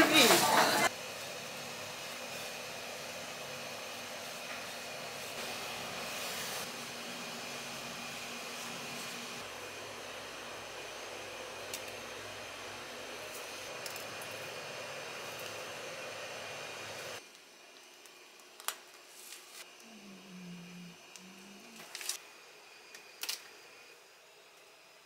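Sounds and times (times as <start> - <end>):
fan whooshing hum: 0.0 - 24.8.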